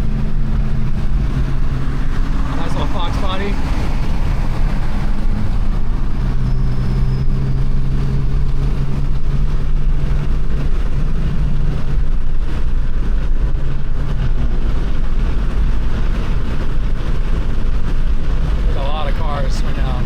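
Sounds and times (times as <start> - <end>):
constant rumble: 0.0 - 20.0
low engine drone: 0.0 - 20.0.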